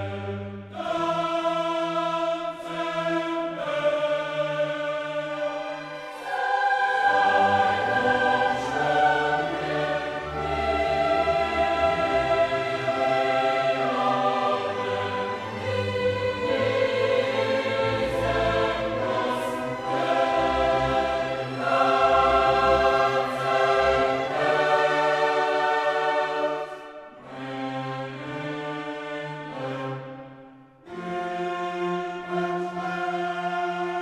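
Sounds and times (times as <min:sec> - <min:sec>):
choir singing with orchestra: 0:00.0 - 0:34.0.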